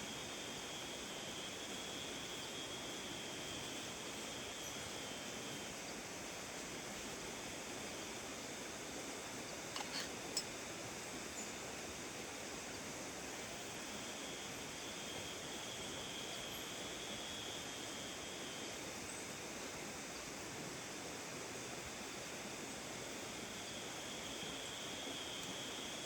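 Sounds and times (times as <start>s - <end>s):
steady rainfall hiss: 0.0s - 26.0s.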